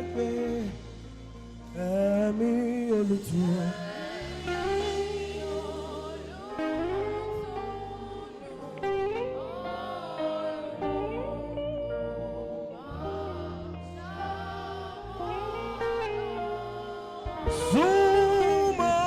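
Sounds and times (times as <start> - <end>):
bass notes from backing band: 0.0 - 19.0.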